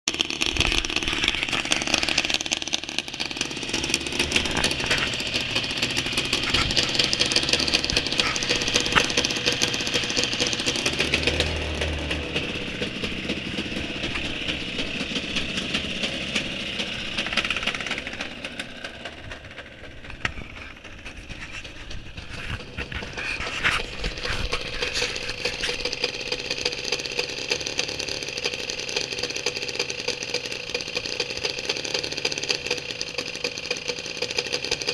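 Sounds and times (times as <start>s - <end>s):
model airplane engine running: 0.1s - 34.9s.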